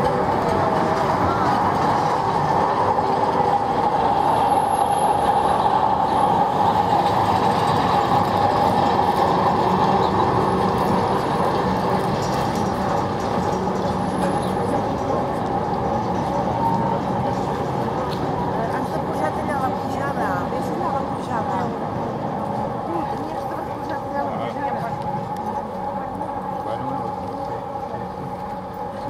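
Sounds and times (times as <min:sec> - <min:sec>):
electric locomotive whine: 0:00.0 - 0:29.0
train wheels rumbling: 0:00.0 - 0:29.0.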